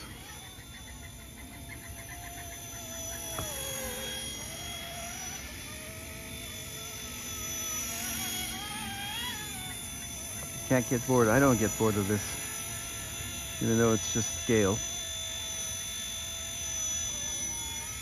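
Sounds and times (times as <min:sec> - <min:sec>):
toy helicopter rotor whine: 0:00.0 - 0:18.0.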